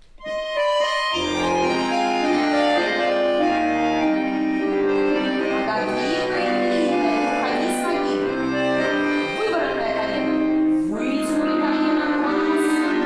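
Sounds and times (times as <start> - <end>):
accordion playing dance tune: 0.1 - 13.0.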